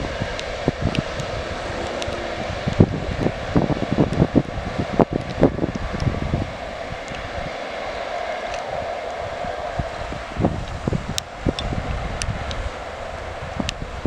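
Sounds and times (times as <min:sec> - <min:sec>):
distant rumble: 0:00.0 - 0:14.0
wind buffeting microphone: 0:00.0 - 0:14.0.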